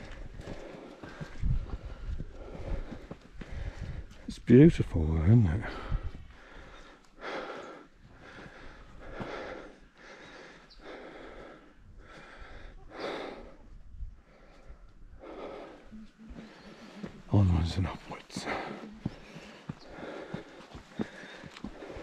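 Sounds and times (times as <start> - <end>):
person breathing hard: 0.0 - 4.3, 5.6 - 17.3, 18.4 - 22.0.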